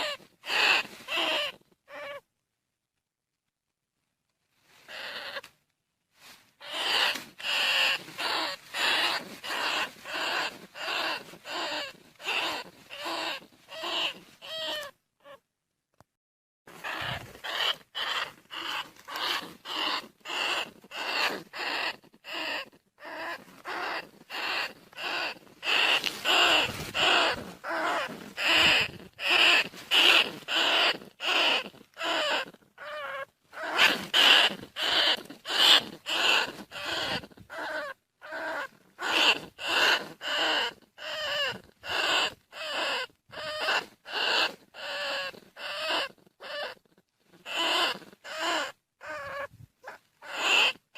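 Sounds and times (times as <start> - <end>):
rat squealing calls: 0.0 - 2.2, 4.9 - 5.5, 6.6 - 15.4, 16.7 - 50.9.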